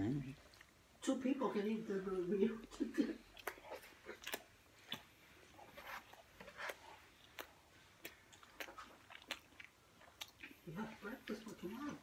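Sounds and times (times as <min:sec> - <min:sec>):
person chewing food: 0:00.2 - 0:01.0, 0:02.5 - 0:12.0.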